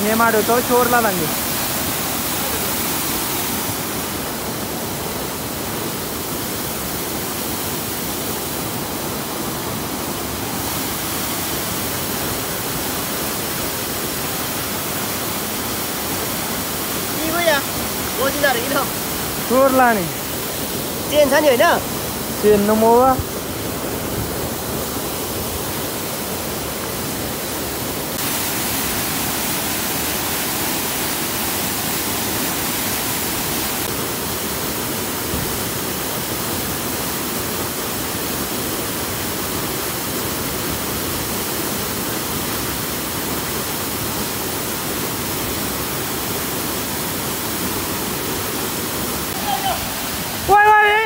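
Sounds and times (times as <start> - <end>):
stream rushing over its bed: 0.0 - 51.0.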